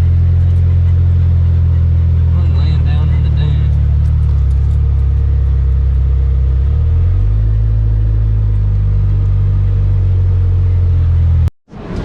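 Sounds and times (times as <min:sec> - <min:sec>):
car engine droning while driving: 0:00.0 - 0:12.0.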